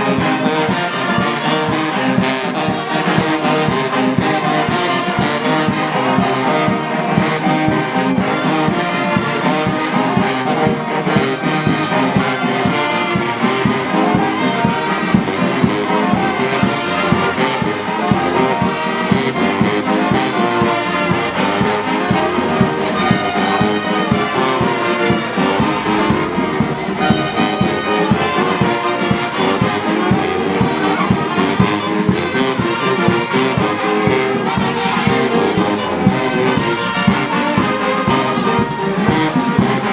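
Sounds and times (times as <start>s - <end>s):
brass band playing: 0.0s - 39.9s
trombones and trumpets sustained notes: 0.0s - 39.9s.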